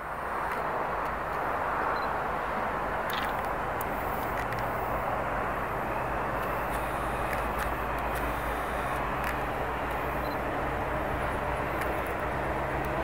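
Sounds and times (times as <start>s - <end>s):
highway traffic passing: 0.0s - 13.0s.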